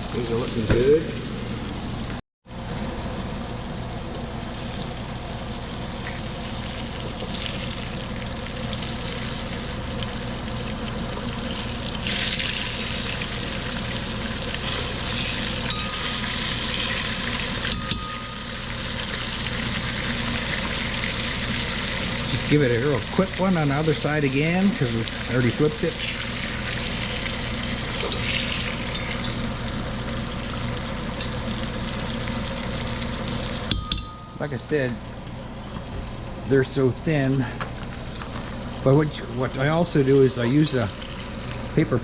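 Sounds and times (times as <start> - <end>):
meat sizzling in hot oil: 2.7 - 34.2, 37.3 - 42.0.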